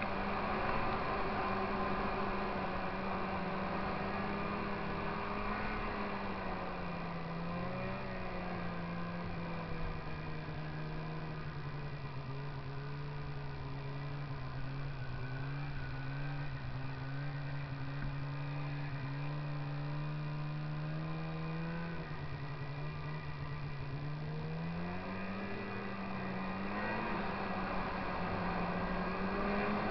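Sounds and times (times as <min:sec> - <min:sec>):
snowmobile engine running: 0:00.0 - 0:29.9.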